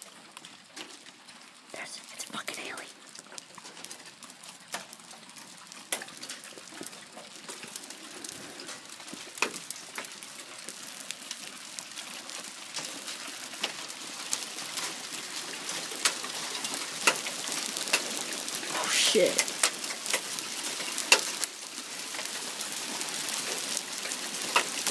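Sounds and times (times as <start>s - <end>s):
rain falling: 0.0s - 24.9s
raindrops tapping on surfaces: 0.0s - 24.9s.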